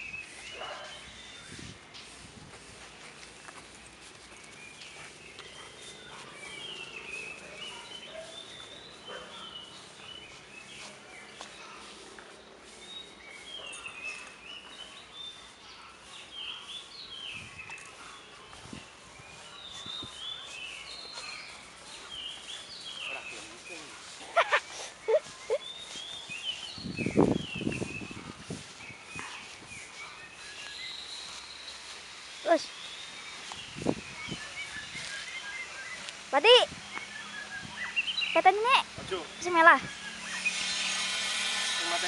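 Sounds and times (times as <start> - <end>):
outdoor background noise: 0.0 - 42.0
small birds chirping: 0.0 - 42.0.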